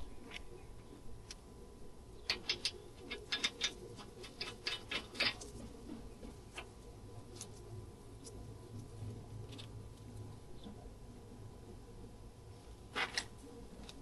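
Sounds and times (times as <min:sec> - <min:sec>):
low steady background: 0:00.0 - 0:14.0.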